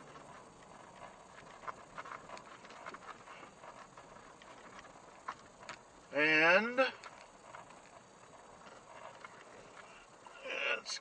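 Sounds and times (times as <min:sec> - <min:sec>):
low hiss: 0:00.0 - 0:11.0
tyres crunching on gravel: 0:00.0 - 0:11.0.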